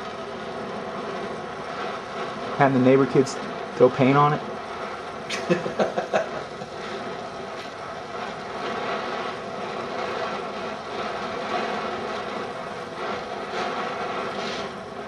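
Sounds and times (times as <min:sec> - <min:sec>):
welding torch flame hissing: 0:00.0 - 0:15.0.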